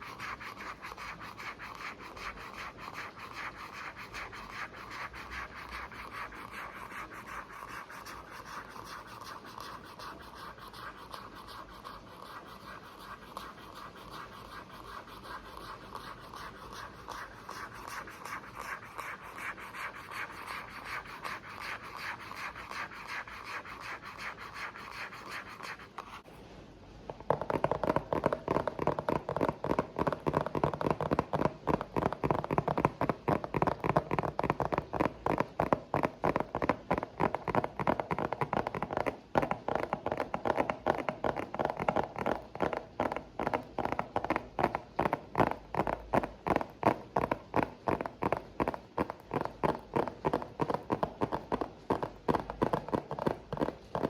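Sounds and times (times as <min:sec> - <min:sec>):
scratching and tapping on hard object: 0:00.0 - 0:26.2, 0:27.1 - 0:54.0
lower-pitched scratching and tapping: 0:00.0 - 0:26.3, 0:27.1 - 0:54.0.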